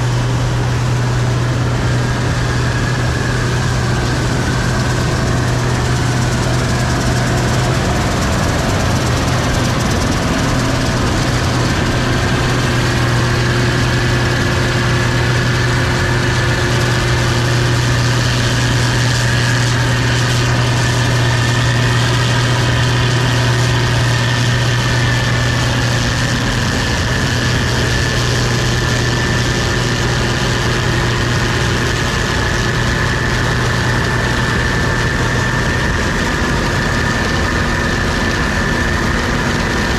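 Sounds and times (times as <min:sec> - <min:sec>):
combine engine drone: 0:00.0 - 0:39.9
high-pitched whine: 0:00.0 - 0:39.9.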